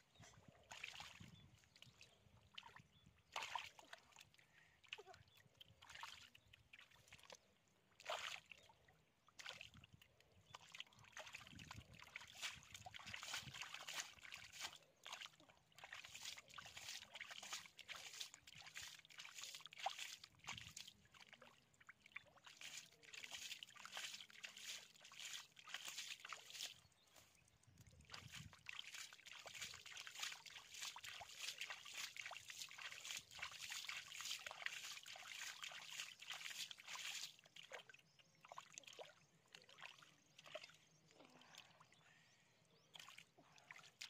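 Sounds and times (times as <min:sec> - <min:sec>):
hands sloshing in muddy water: 0:00.4 - 0:44.0.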